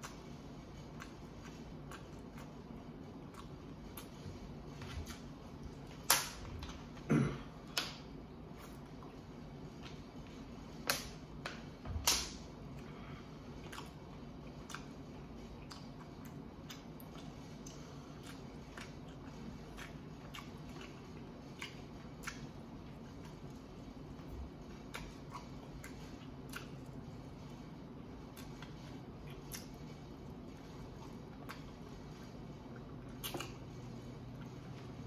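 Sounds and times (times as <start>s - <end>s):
chewing and eating sounds: 0.0s - 35.0s
steady low hum: 0.0s - 35.0s.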